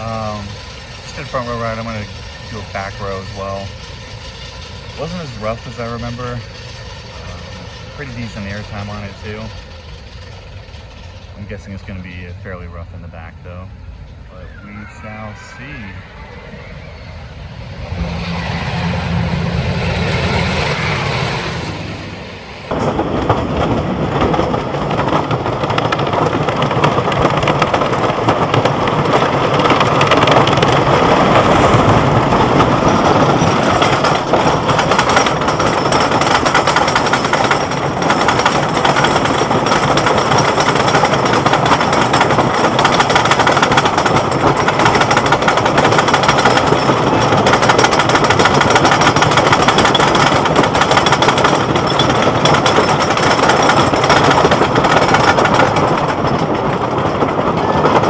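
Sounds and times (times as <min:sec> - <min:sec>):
roller coaster rattling on track: 0:00.0 - 0:58.0.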